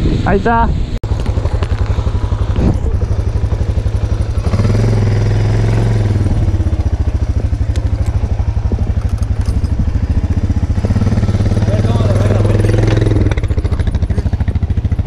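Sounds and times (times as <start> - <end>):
motorcycle engine idling: 1.0 - 15.0.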